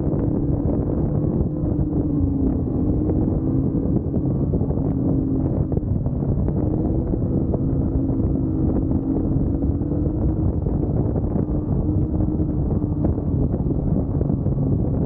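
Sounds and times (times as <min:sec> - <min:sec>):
snowmobile engine running: 0:00.0 - 0:15.0
wind noise on microphone: 0:00.0 - 0:15.0.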